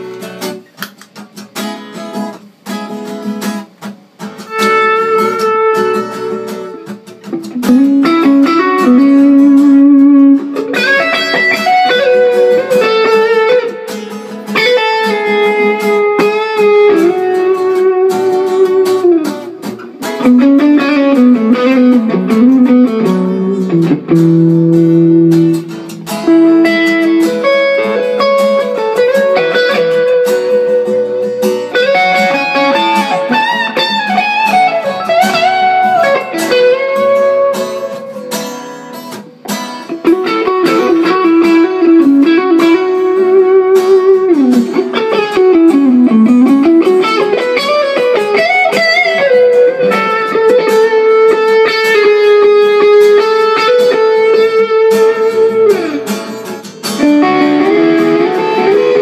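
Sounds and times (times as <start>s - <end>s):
guitar improvisation: 0.0s - 59.0s.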